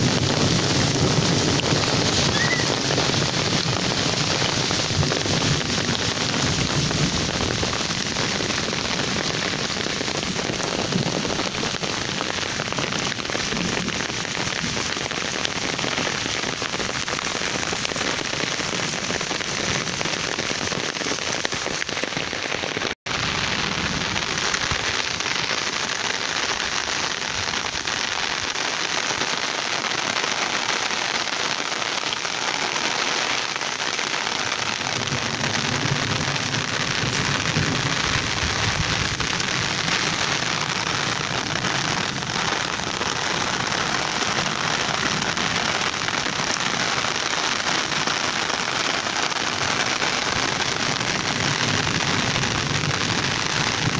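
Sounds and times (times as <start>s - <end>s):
rain falling on wet soil: 0.0s - 53.9s.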